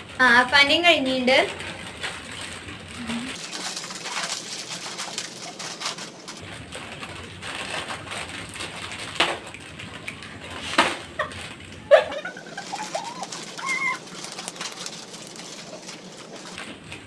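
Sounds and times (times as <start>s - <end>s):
foil packets crinkling: 0.0s - 17.0s.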